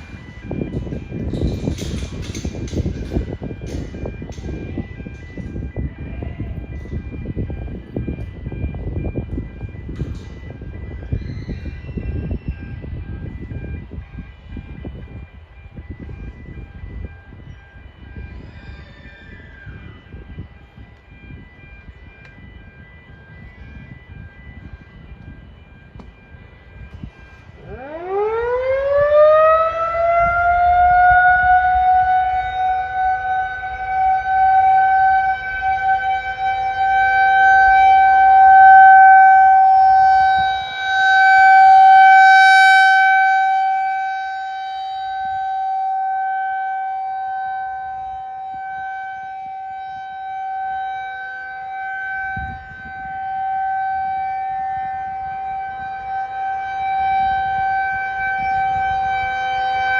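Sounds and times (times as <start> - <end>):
electromechanical siren winding up: 0.1 - 59.9.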